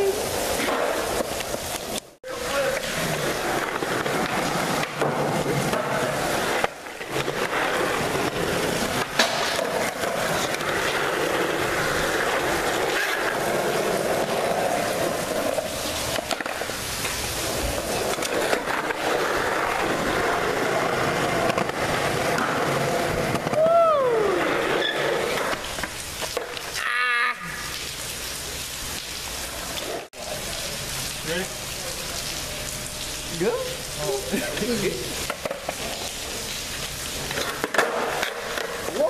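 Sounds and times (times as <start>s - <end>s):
skateboard wheels rolling on concrete: 0.0s - 39.0s.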